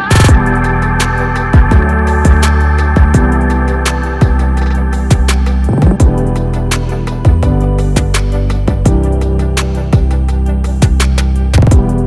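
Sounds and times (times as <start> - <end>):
beat with deep kick drum: 0.1 - 9.2, 10.0 - 12.0.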